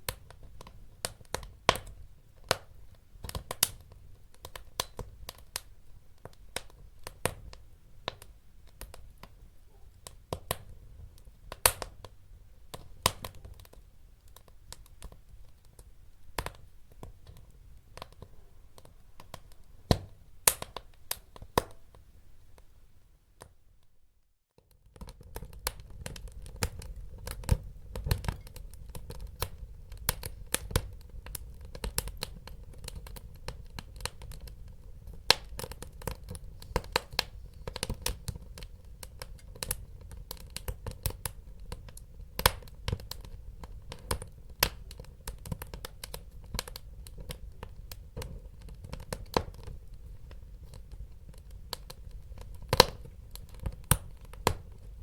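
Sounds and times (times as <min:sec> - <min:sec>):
wood fire crackling and popping: 0:00.0 - 0:22.7, 0:24.6 - 0:55.0.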